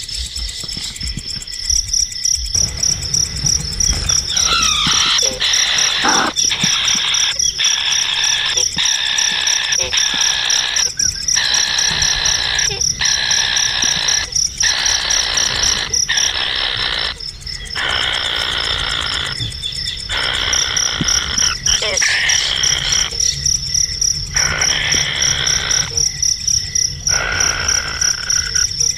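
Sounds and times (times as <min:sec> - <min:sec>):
fast pulsing insect trill: 0:00.0 - 0:28.9
insects buzzing drone: 0:00.0 - 0:28.9.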